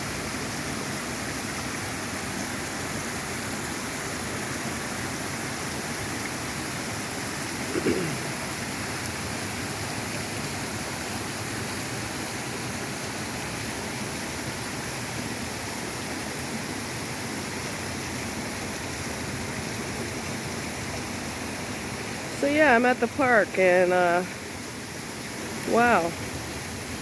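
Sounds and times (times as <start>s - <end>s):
waterfall and creek rushing: 0.0s - 27.0s.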